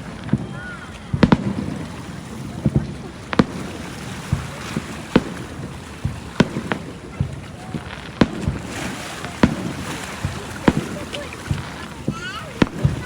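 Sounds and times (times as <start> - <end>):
fireworks bangs: 0.0 - 13.0
surf hissing: 0.0 - 13.0
wind: 0.0 - 13.0.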